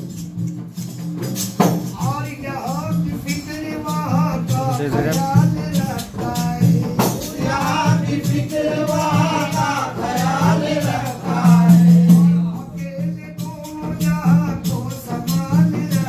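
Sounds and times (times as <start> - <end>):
frame drums beating: 0.0 - 16.0
men singing: 1.9 - 16.0.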